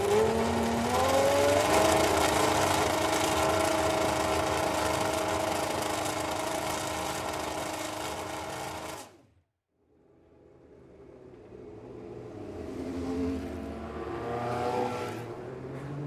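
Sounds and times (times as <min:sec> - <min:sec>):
race car engine at steady revs: 0:00.0 - 0:09.0, 0:11.1 - 0:16.0.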